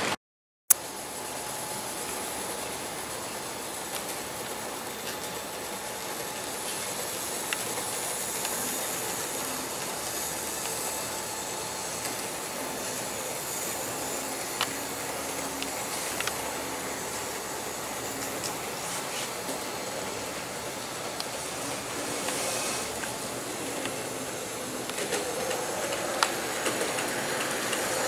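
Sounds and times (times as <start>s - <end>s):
model train wheels and motor hissing: 0.7s - 28.0s.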